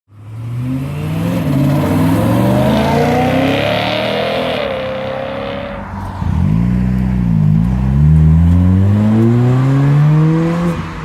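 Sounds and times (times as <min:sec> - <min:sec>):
car engine accelerating: 0:00.3 - 0:11.0.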